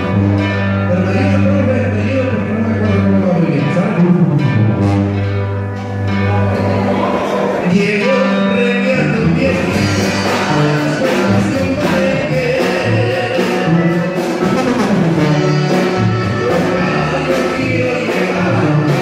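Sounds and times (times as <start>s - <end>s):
live band music: 0.0s - 19.0s.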